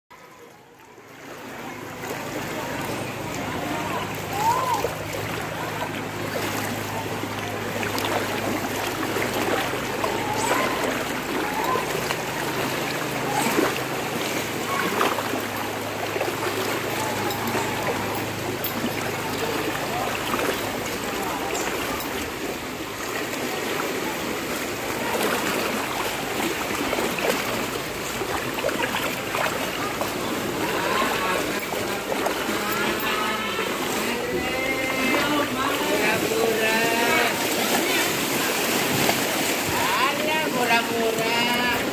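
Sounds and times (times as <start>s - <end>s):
rushing floodwater: 0.2s - 41.9s
voices calling out: 0.2s - 41.9s.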